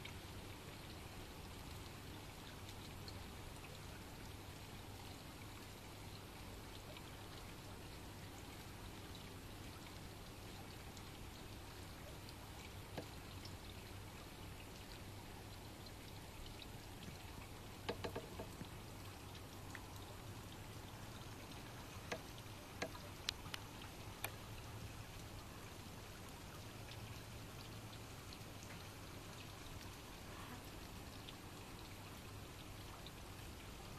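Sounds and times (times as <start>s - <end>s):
low steady hum: 0.0s - 33.9s
raindrops ticking close by: 0.0s - 33.9s
steady rain: 0.0s - 33.9s.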